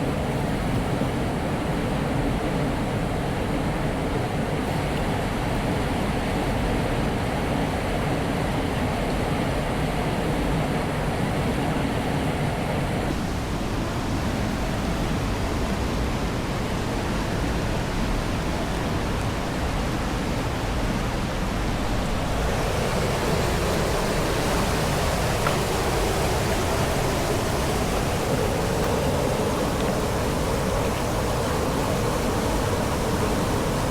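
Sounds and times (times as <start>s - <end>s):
stream water flowing: 0.0s - 33.9s.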